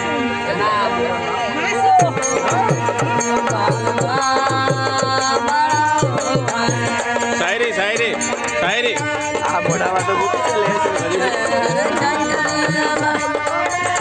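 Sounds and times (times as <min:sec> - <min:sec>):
harmonium melody: 0:00.0 - 0:14.0
hand drum rhythm: 0:02.0 - 0:14.0.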